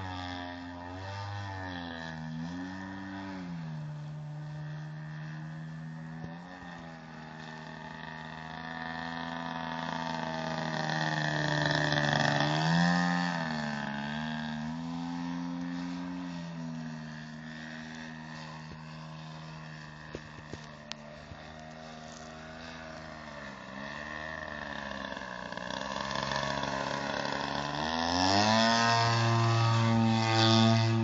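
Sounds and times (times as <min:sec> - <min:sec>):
model plane engine passing by: 0:00.0 - 0:31.0.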